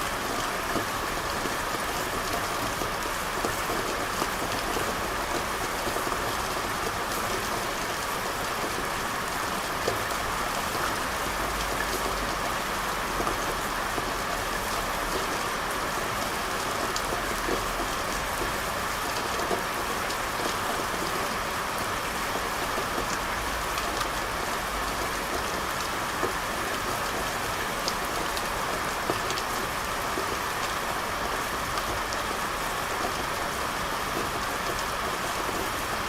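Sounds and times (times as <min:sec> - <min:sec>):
rain on hard surfaces: 0:00.0 - 0:36.0.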